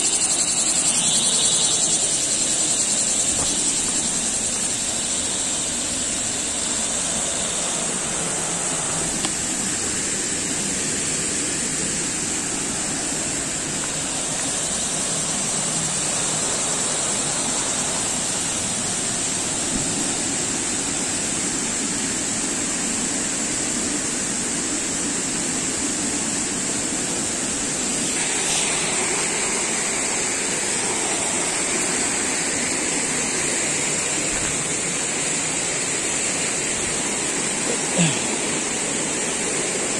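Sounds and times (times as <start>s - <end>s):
water rushing in rocky creek: 2.0s - 39.9s.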